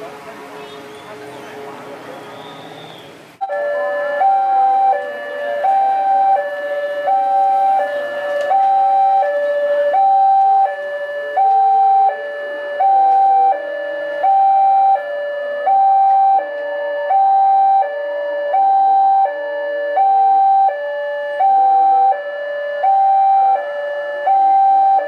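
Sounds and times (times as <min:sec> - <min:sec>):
two-tone crossing alarm: 0:00.0 - 0:25.0.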